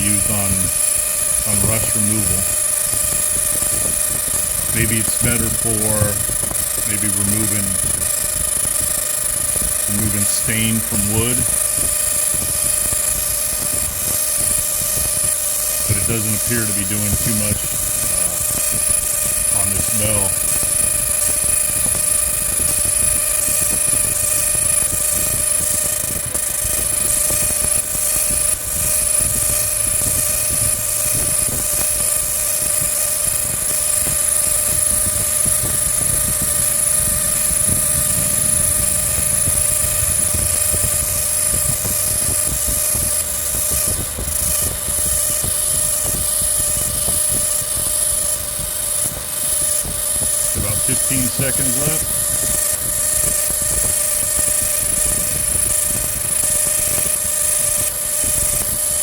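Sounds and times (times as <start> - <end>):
laser crackling hiss on rust: 0.0 - 59.0
machine whine: 0.0 - 59.0.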